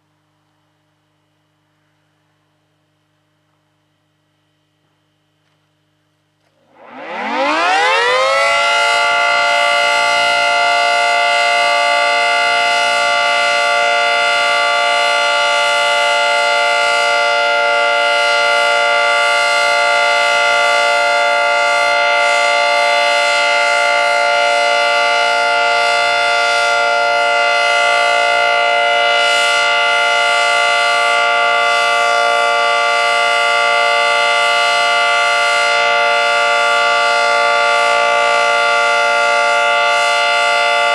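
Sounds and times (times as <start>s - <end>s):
two-tone tornado siren: 6.5s - 40.9s.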